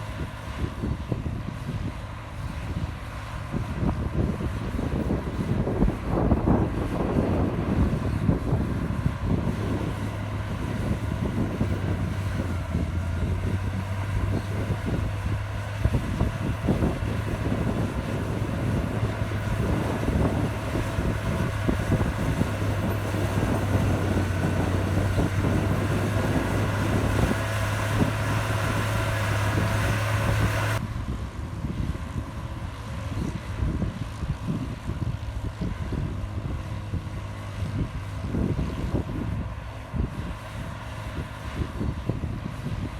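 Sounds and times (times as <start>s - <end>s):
bulldozer diesel engine: 0.0s - 42.9s.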